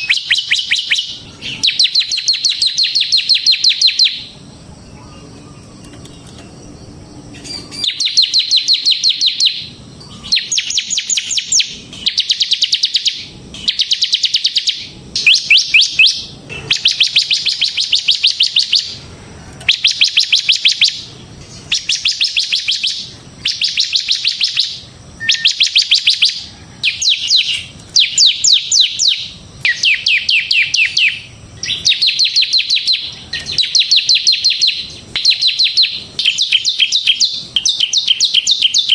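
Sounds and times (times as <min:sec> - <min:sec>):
bird trilling song: 0:00.0 - 0:38.9.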